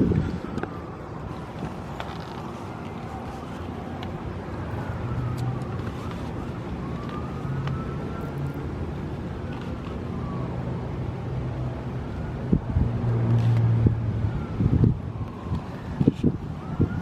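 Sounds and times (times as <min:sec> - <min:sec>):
faint siren wailing: 0:00.0 - 0:17.0.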